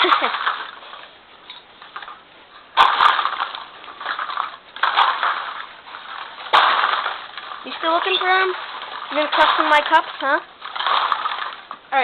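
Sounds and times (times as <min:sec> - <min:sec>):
cups clattering and crinkling: 0:00.0 - 0:11.9
rustling with sharp clicks: 0:00.0 - 0:12.0.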